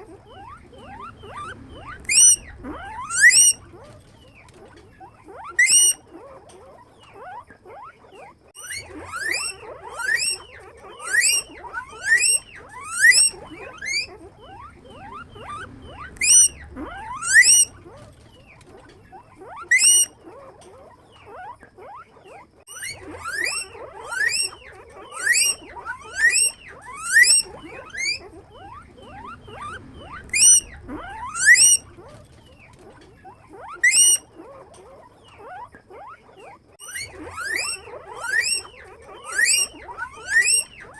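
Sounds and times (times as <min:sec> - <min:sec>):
guinea pigs squealing: 0:00.0 - 0:40.9.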